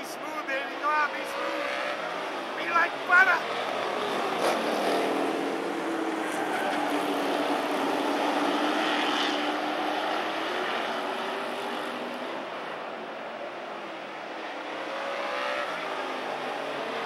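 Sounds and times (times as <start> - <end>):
race truck engines running hard: 0.0 - 17.0.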